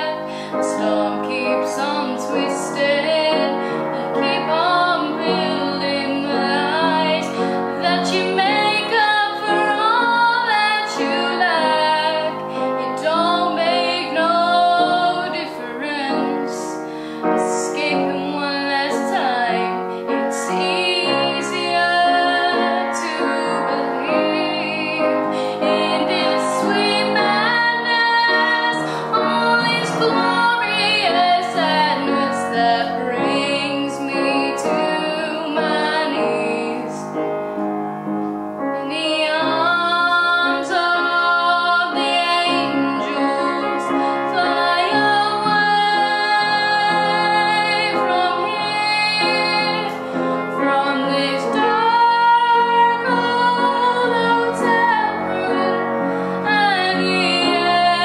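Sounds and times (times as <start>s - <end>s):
girl singing: 0.0s - 16.8s, 17.4s - 37.2s, 38.8s - 58.0s
instrumental backing music: 0.0s - 58.0s.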